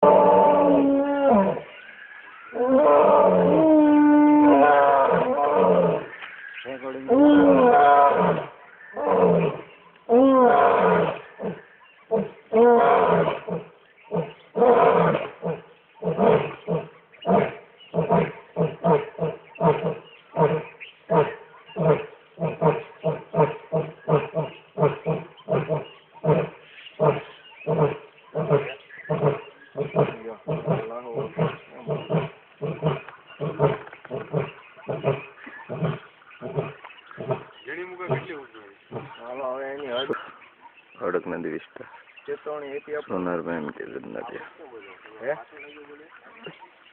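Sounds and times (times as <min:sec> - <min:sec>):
lion roaring: 0:00.0 - 0:01.8, 0:02.5 - 0:39.4.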